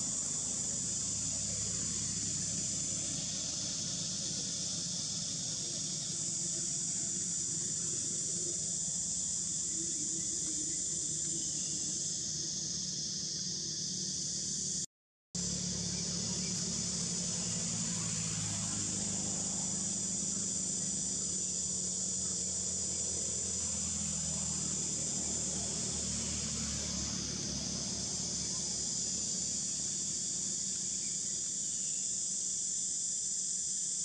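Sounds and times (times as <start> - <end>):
insect chorus droning: 0.0 - 34.0.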